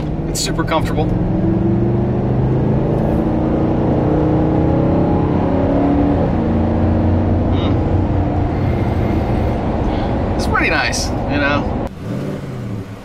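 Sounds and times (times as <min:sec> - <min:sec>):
truck engine accelerating: 0:00.0 - 0:13.0
tyre and road noise: 0:00.0 - 0:13.0.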